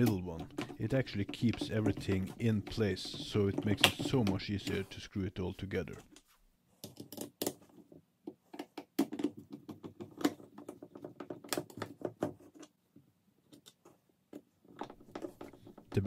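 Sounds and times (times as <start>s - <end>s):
screwdriver clicking and scraping plastic: 0.0s - 5.0s, 6.8s - 12.8s, 13.4s - 16.0s.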